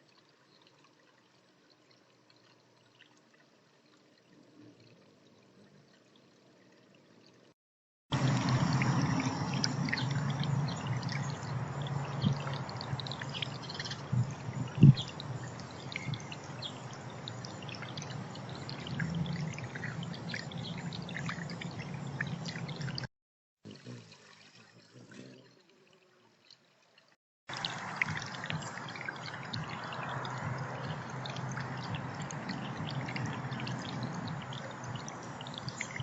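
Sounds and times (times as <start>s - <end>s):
water trickling and pouring: 0.0s - 23.1s, 23.7s - 36.0s.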